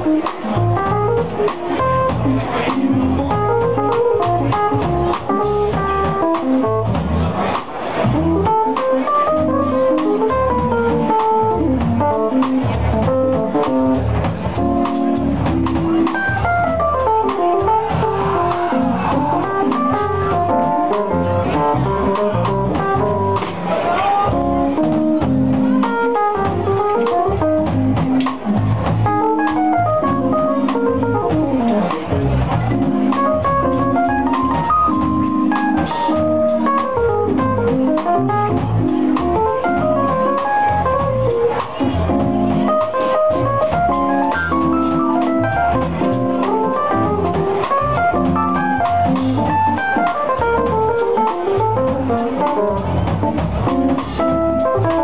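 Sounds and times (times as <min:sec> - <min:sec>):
fast melodic solo line: 0:00.0 - 0:55.0
jazz band playing: 0:00.0 - 0:55.0.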